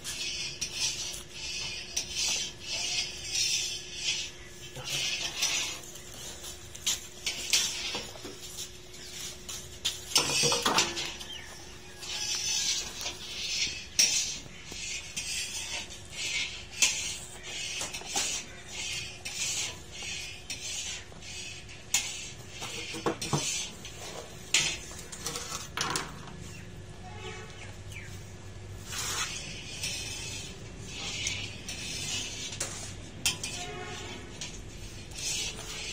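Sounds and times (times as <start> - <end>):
plate scraping steel tray: 0.0 - 27.6, 28.8 - 35.9.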